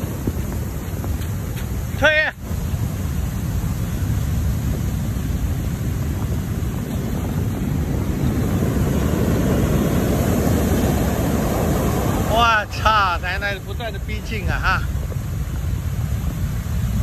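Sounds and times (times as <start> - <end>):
heavy surf breaking: 0.0 - 17.0
wind buffeting microphone: 0.0 - 17.0.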